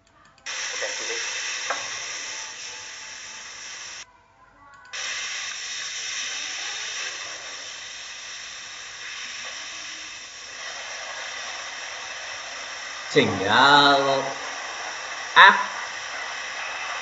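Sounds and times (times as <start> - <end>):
pressurised spray hissing: 0.5 - 4.0, 5.0 - 17.0.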